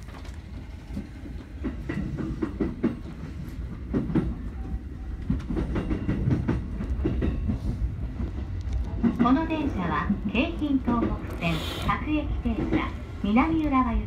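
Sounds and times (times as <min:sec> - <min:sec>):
train low rumble: 0:00.0 - 0:14.0
train wheels clacking over track: 0:00.0 - 0:14.0.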